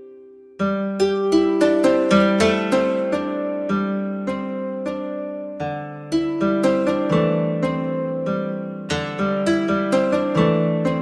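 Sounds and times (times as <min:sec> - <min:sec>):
plucked-string melody: 0:00.0 - 0:11.0.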